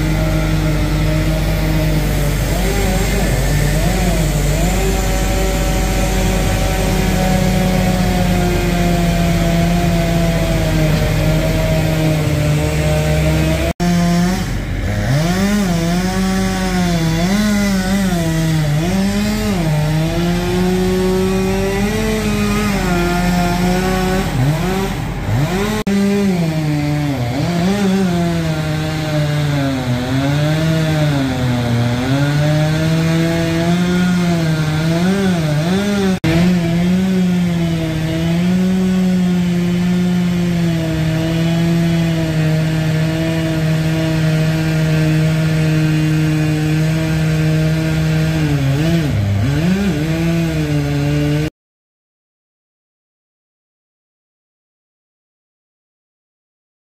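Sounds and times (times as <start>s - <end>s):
chainsaw cutting wood: 0.0s - 51.5s.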